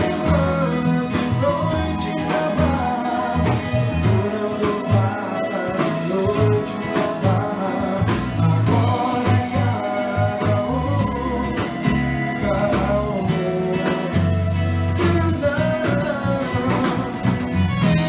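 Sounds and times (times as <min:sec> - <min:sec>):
bass line: 0:00.0 - 0:18.0
guitar: 0:00.0 - 0:18.0
person singing: 0:00.0 - 0:18.0.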